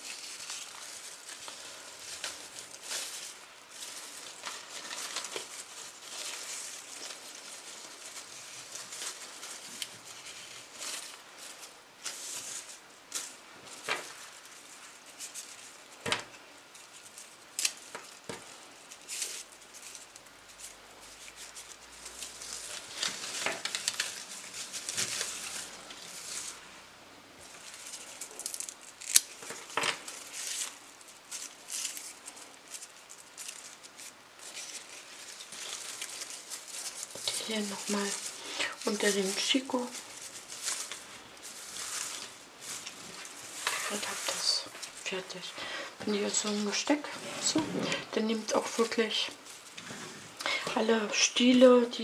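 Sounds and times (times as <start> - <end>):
leaves rustling: 0.0 - 52.0.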